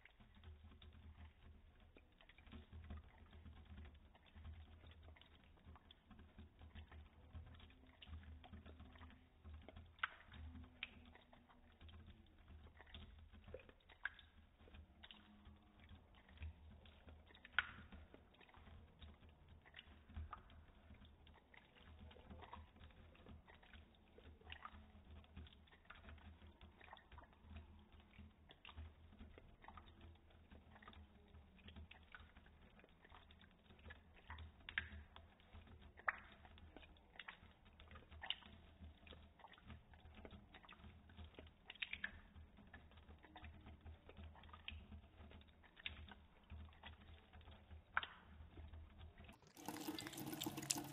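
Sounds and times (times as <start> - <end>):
cat tongue lapping water: 0.0 - 50.9
running tap water: 0.0 - 50.9.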